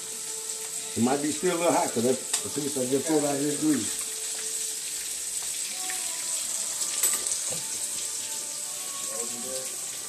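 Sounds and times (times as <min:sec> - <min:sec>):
fish frying in hot oil: 0:00.0 - 0:10.0.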